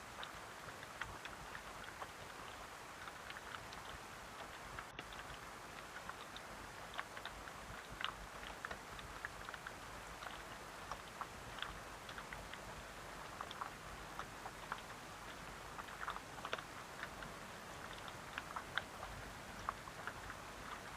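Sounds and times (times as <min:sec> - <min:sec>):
rain hiss: 0:00.0 - 0:20.9
raindrops ticking: 0:00.0 - 0:20.9.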